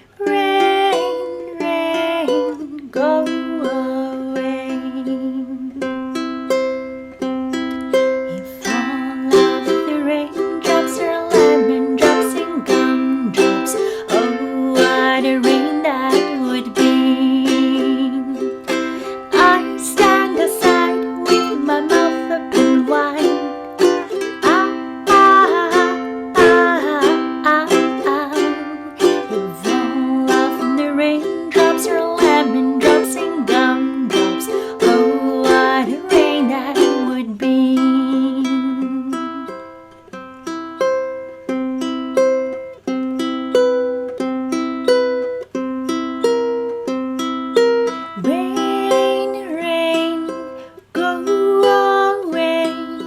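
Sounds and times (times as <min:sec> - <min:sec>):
ukulele playing: 0:00.0 - 0:53.0.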